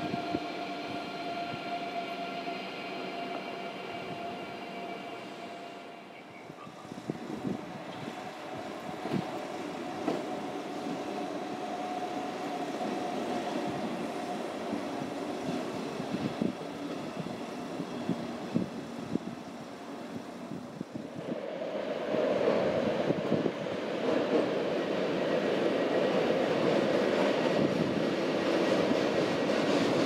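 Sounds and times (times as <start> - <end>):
train rolling noise: 0.0 - 30.0.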